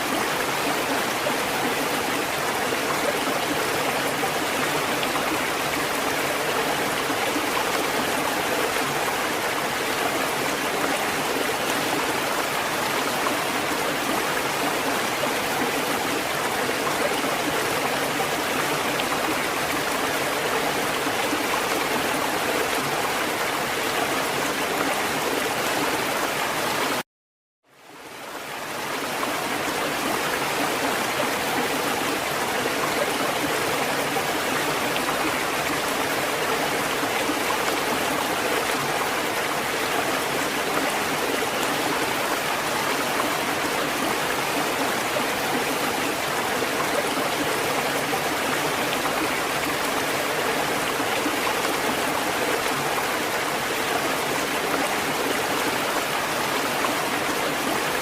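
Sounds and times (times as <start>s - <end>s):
rushing water: 0.0s - 27.0s, 27.7s - 58.0s.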